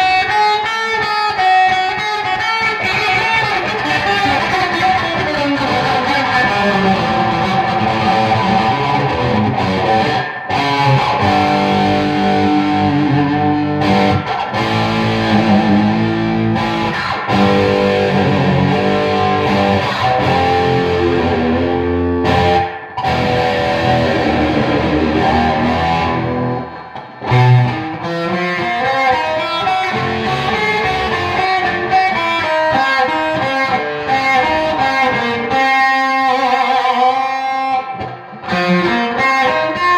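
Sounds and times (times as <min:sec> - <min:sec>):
distorted electric guitar music: 0:00.0 - 0:39.9.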